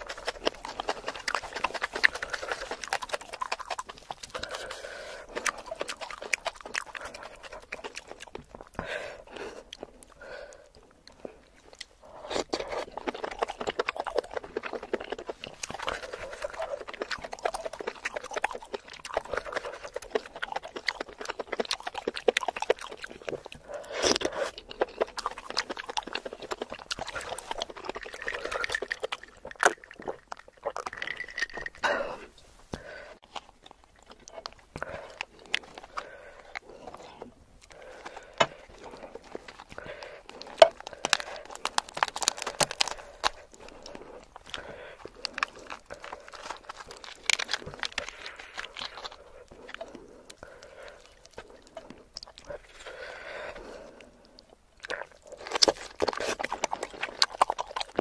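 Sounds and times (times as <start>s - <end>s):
wet chewing and slurping: 0.0s - 58.0s.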